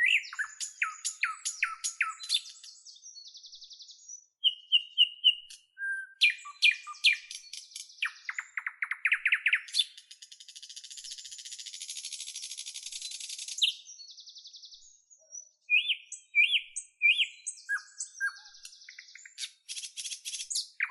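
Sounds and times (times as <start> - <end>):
birds chirping and singing: 0.0 - 20.9.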